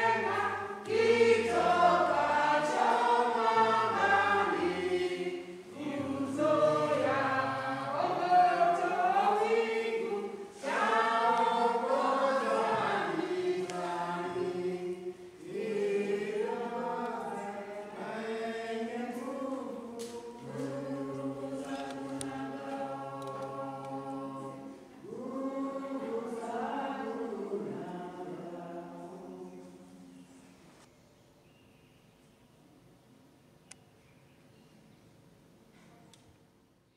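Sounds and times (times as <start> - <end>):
congregation singing a hymn: 0.0 - 30.9.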